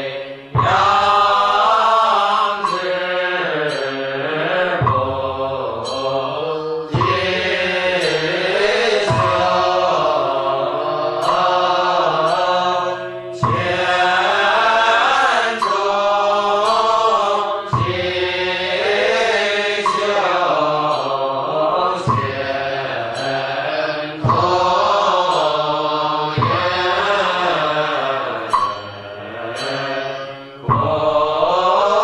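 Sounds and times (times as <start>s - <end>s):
monks chanting in unison: 0.0s - 32.0s.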